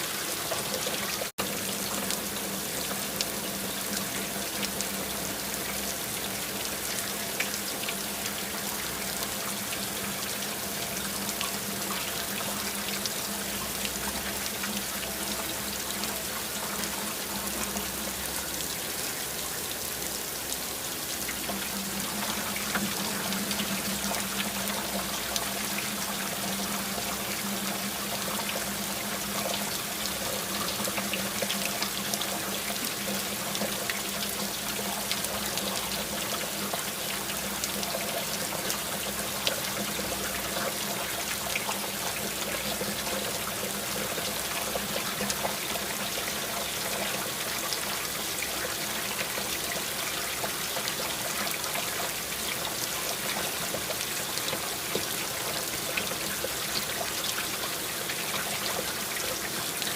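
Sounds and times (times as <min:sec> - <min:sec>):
rain drops pattering: 0:00.0 - 0:59.9
trickling running water: 0:00.0 - 0:59.9.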